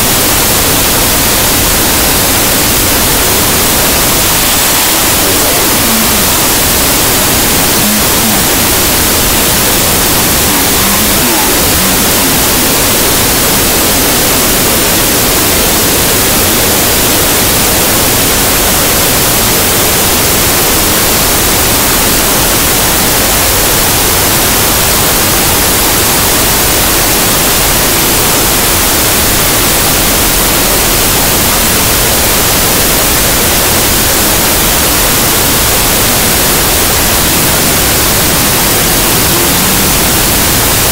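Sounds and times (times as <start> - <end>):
loud static hiss: 0.0 - 40.9.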